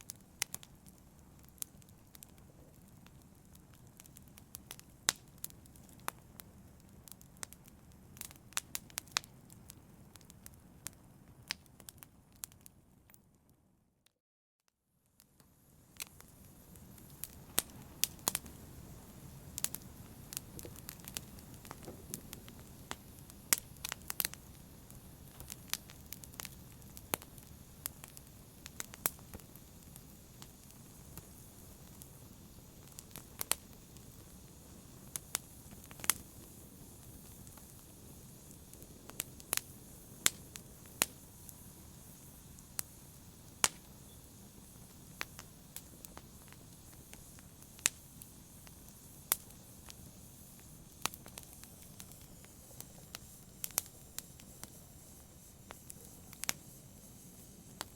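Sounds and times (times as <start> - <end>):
wood fire crackling: 0.0 - 13.3, 15.2 - 57.9.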